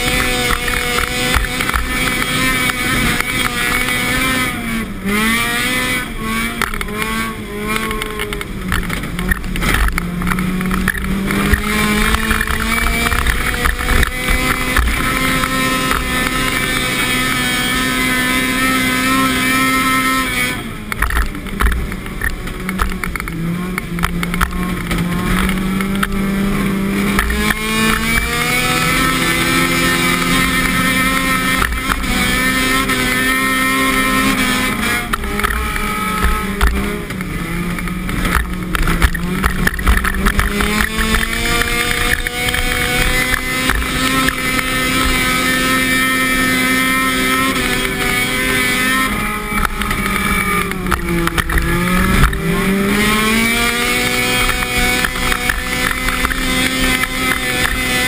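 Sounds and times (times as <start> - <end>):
car engine revving under load: 0.0 - 58.0.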